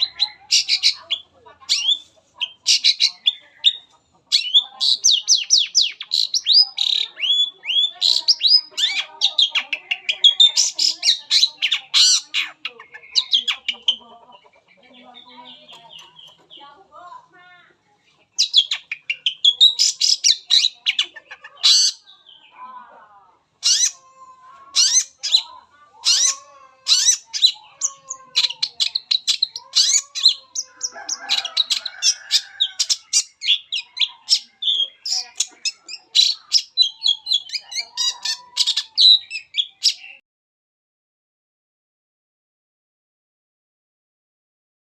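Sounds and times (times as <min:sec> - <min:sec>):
bird singing chirps and trills: 0:00.0 - 0:16.8, 0:18.3 - 0:22.9, 0:23.6 - 0:40.2.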